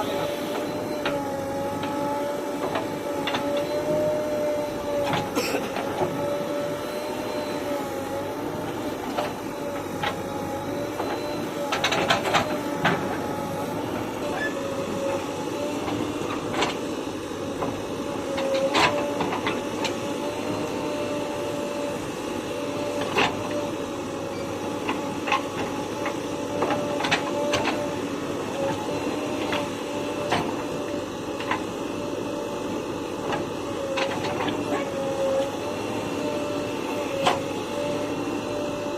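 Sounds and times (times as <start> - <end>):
bulldozer engine drone: 0.0 - 38.9.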